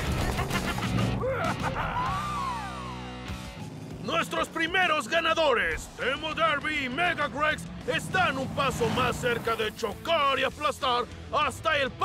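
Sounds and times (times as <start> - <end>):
cartoon action music: 0.0 - 10.6.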